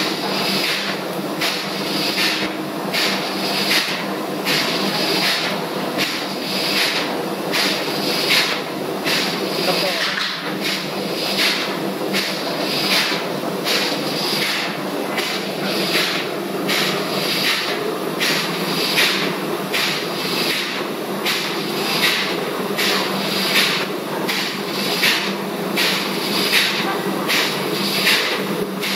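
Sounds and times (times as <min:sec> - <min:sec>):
engine room machinery hum: 0:00.0 - 0:28.9.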